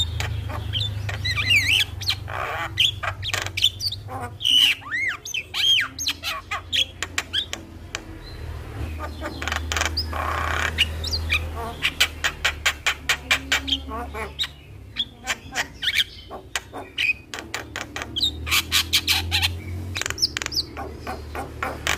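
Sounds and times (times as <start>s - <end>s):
bird harsh squawks: 0.0s - 7.6s, 9.0s - 21.9s
bird whistled song: 0.0s - 7.6s, 8.2s - 21.9s.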